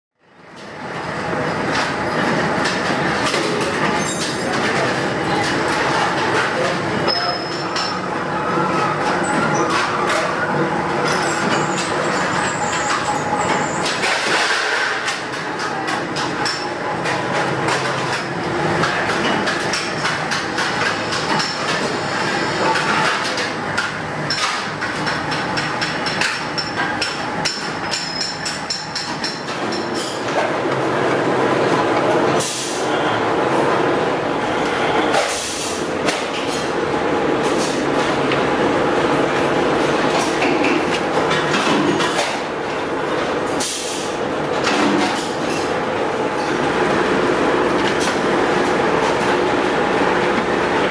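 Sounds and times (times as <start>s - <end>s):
roll-forming machines clattering: 0.6s - 34.2s, 34.8s - 50.9s.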